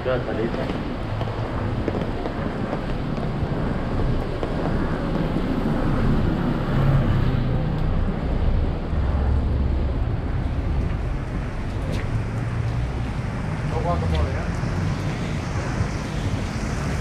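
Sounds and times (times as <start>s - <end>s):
traffic on a wet road: 0.0s - 17.0s
wind on microphone: 0.0s - 17.0s.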